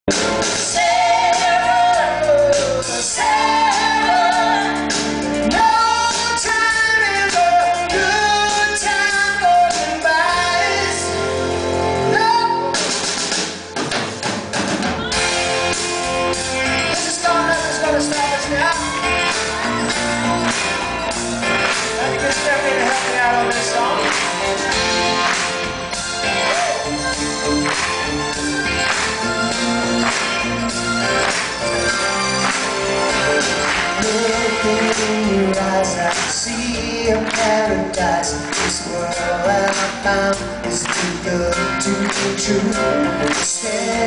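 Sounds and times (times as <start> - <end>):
live rock band playing: 0.1 - 44.0.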